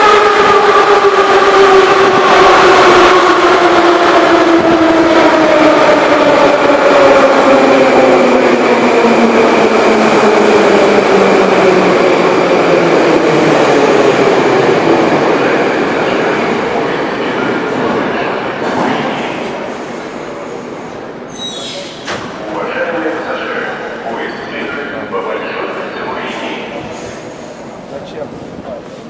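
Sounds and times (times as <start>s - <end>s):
subway train whine: 0.0s - 29.0s.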